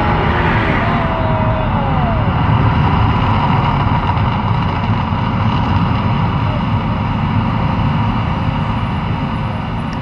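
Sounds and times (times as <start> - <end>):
low rumble of eruption effects: 0.0 - 10.0.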